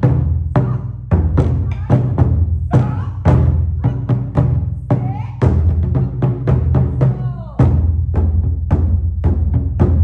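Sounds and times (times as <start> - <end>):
taiko drums booming: 0.0 - 10.0.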